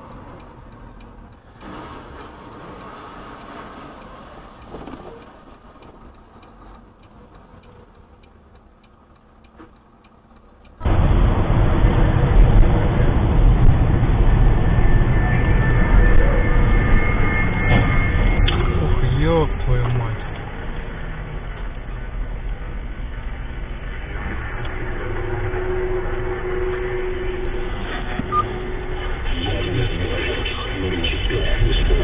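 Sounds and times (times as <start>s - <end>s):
engine and tyres rumbling on road: 0.0s - 32.0s.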